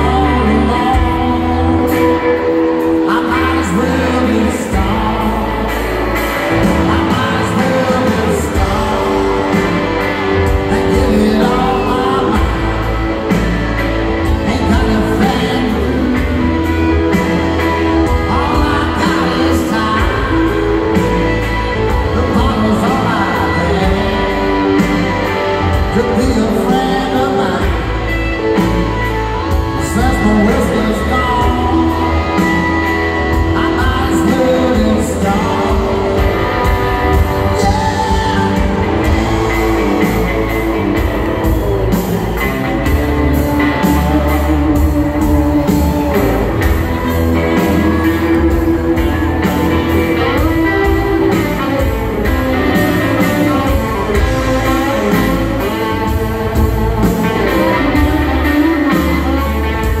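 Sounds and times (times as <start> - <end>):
live rock band: 0.0 - 60.0
man singing: 0.0 - 60.0.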